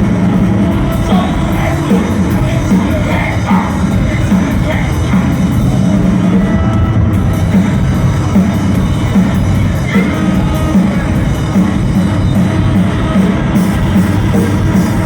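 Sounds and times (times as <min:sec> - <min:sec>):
live rock music: 0:00.0 - 0:15.0.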